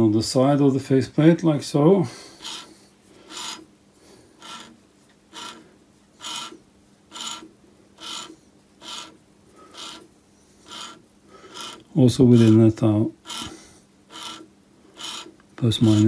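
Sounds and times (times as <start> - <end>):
short rasping rubs: 2.3 - 12.6, 13.2 - 16.0.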